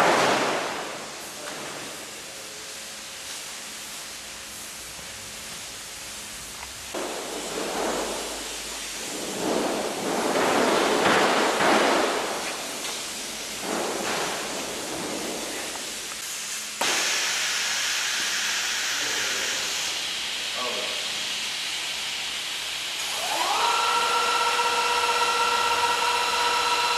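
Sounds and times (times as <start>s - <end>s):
welding arc hissing: 0.0s - 23.6s.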